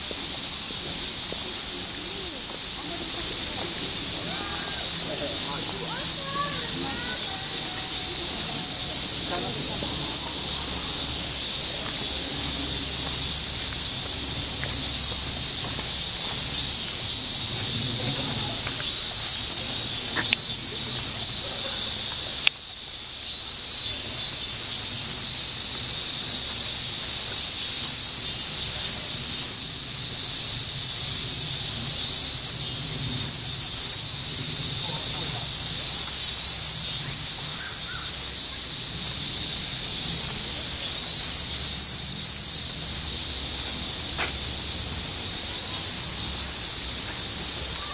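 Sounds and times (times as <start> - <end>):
cicadas chorus: 0.0 - 47.9.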